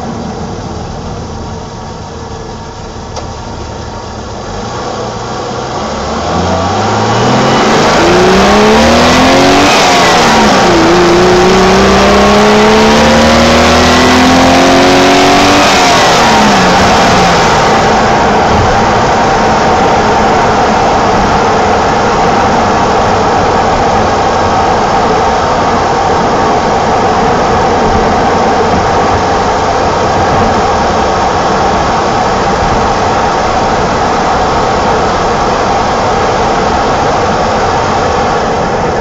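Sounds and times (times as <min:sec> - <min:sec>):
car engine droning: 0:00.0 - 0:39.0.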